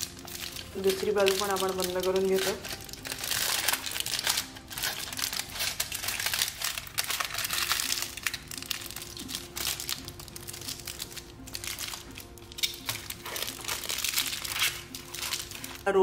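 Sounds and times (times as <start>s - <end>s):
aluminium foil crinkling: 0.0s - 15.9s
faint background music: 0.0s - 16.0s.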